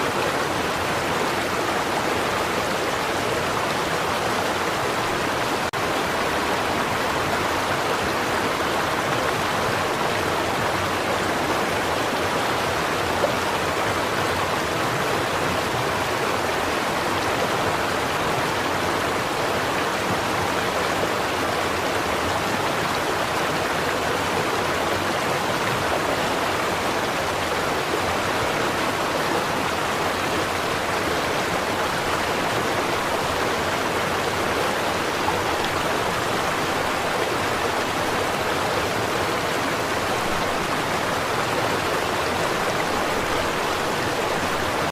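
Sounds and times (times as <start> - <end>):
stream of running water: 0.0 - 44.9.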